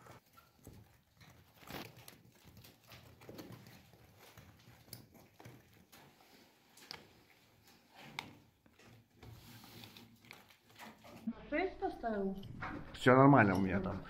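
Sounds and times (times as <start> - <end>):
hand tool scraping plaster: 0.0 - 11.3.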